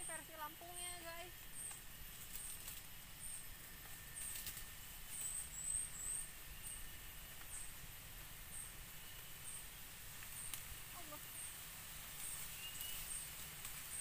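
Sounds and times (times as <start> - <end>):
crackling of brush and leaves: 0.0 - 14.0
faint high whine: 0.0 - 14.0.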